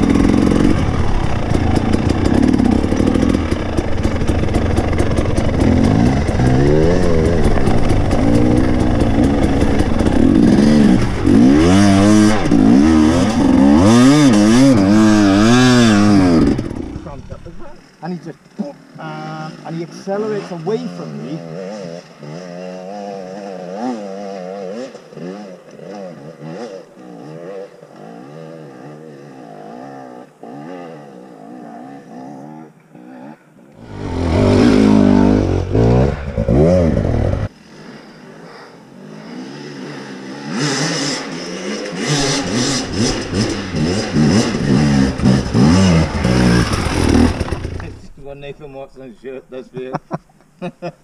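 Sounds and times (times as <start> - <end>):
motorcycle passing at high revs: 0.0 - 48.2
motorcycle engines revving: 0.0 - 50.2.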